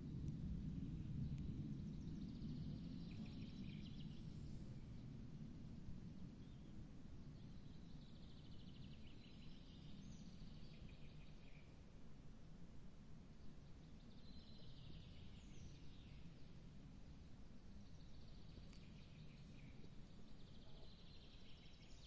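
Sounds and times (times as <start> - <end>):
faint low rumble: 0.0 - 22.0.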